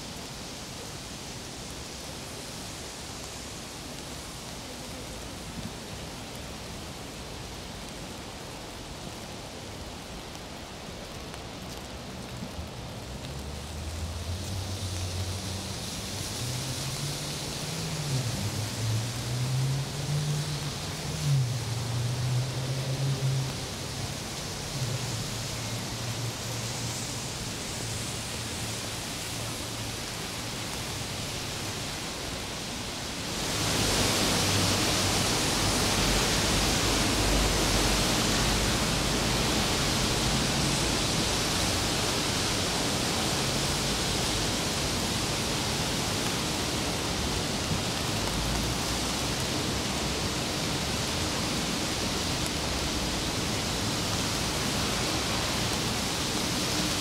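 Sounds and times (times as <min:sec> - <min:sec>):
rain hissing on street: 0:00.0 - 0:57.0.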